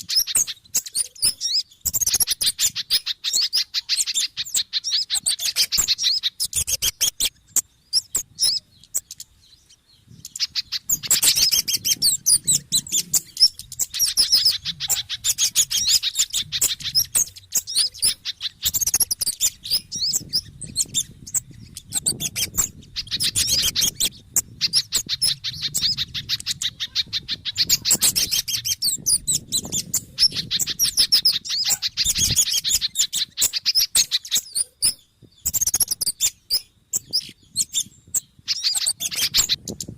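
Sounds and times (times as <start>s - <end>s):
songbirds chirping rapidly: 0.0s - 39.9s.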